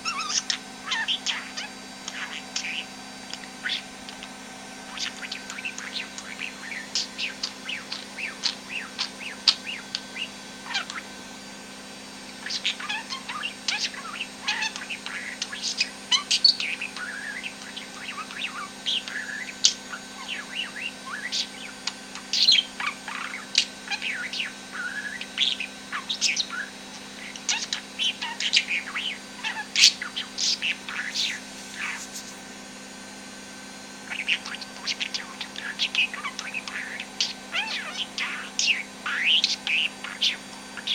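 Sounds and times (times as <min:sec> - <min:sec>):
budgerigar chattering and warbling: 0:00.0 - 0:11.2, 0:12.4 - 0:32.4, 0:34.0 - 0:40.9.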